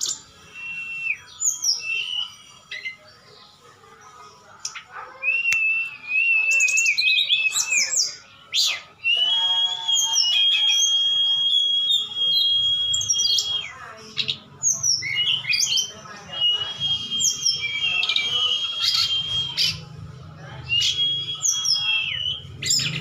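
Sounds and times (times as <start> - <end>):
high whistled bird song: 0.0 - 3.2, 4.6 - 23.0.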